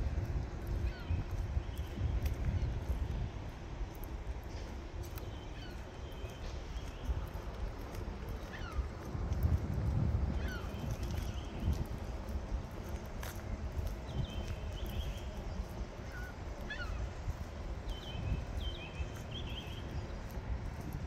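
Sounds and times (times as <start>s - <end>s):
low outdoor rumble: 0.0s - 21.0s
small birds chirping: 0.6s - 9.1s, 10.4s - 21.0s.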